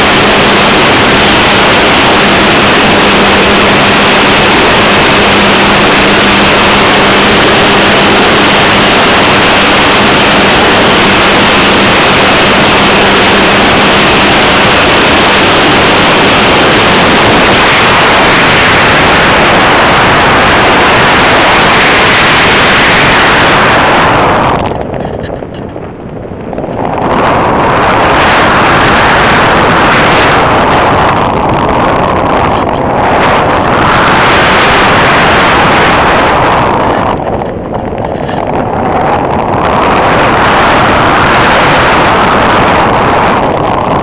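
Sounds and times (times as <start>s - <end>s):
low steady hum: 0.0s - 44.0s
model airplane propeller: 0.0s - 44.0s
wind rushing: 0.0s - 44.0s.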